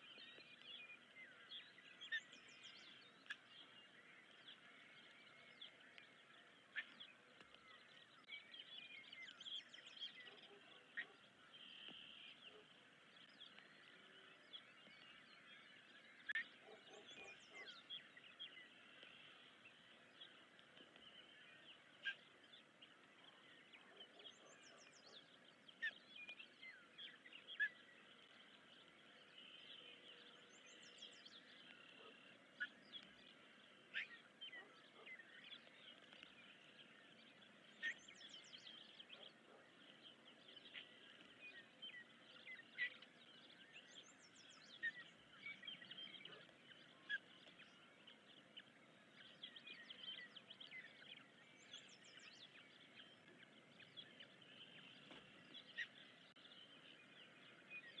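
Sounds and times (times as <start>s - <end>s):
bird chirps: 0.0s - 58.0s.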